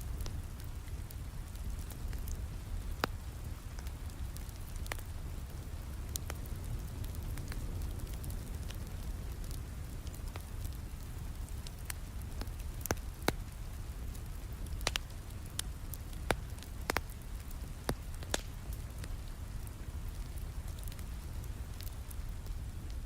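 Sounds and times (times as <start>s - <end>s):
steady rain: 0.0s - 23.0s
wood fire crackling and popping: 0.0s - 23.0s.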